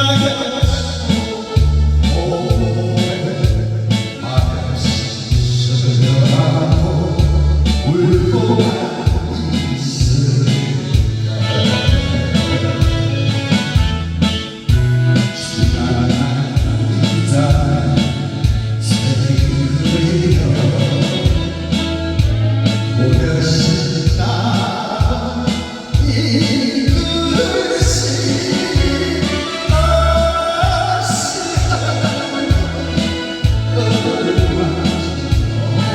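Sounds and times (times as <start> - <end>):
karaoke ballad backing track: 0.0 - 35.9.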